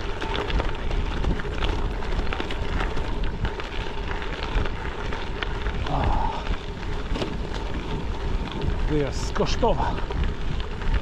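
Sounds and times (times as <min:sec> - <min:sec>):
bike tyres crunching on gravel: 0:00.0 - 0:11.0
wind rumble on microphone: 0:00.0 - 0:11.0.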